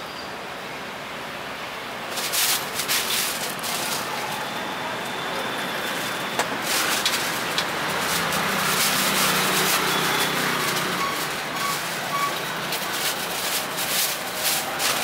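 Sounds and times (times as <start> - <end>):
street traffic noise: 0.0 - 15.0
plastic bag crinkling: 2.1 - 15.0.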